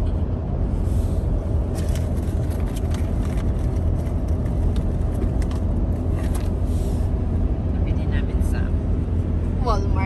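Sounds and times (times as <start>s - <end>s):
car road noise rumble: 0.0s - 10.0s.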